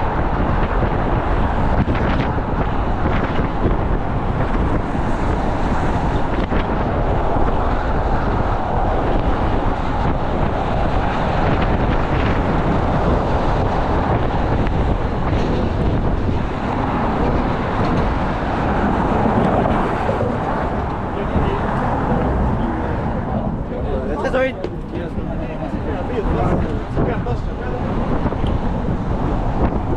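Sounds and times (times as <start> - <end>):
vehicle traffic rumble: 0.0 - 29.9
wind noise on microphone: 0.0 - 29.9.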